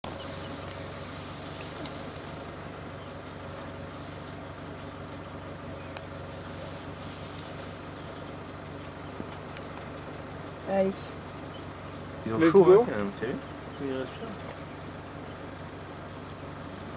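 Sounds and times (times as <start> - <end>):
vehicle engine idling: 0.0 - 16.9.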